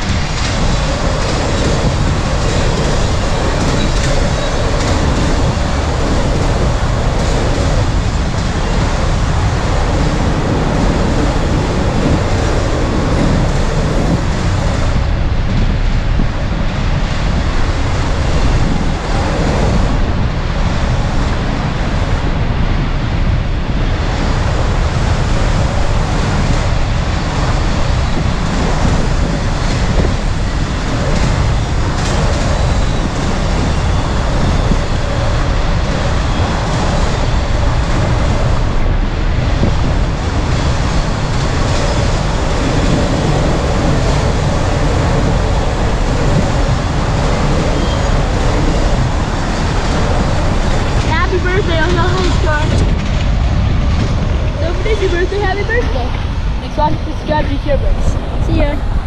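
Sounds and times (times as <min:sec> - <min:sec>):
freight train rumbling on rails: 0:00.0 - 0:59.0
wind buffeting microphone: 0:00.0 - 0:59.0.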